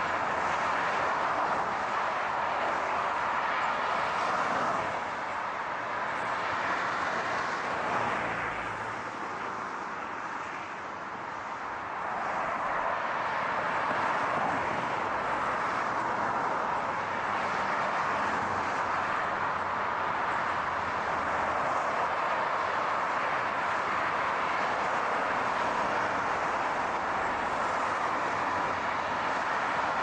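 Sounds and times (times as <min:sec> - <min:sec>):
car road noise rushing: 0:00.0 - 0:30.0.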